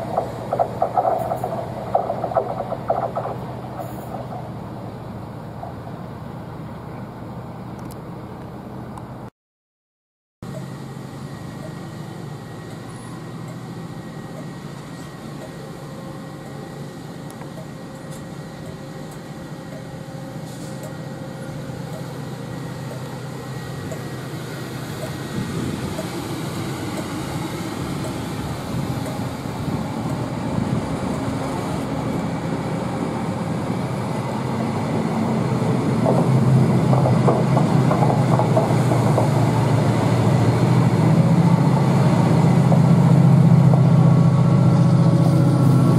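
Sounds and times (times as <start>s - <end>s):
train wheels rumbling on rails: 0.0s - 7.1s, 11.4s - 45.9s
diesel locomotive drone: 0.0s - 9.3s, 10.4s - 45.9s.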